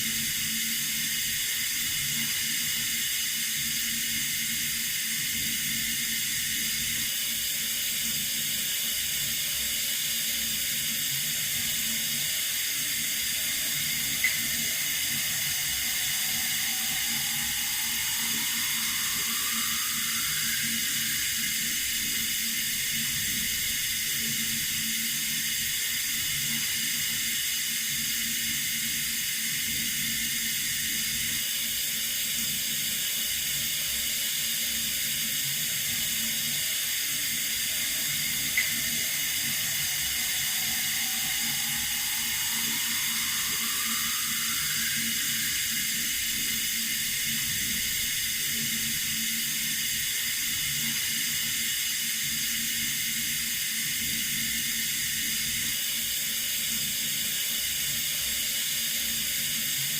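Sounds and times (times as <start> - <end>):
water running from a tap: 0.0 - 31.2, 34.4 - 55.7.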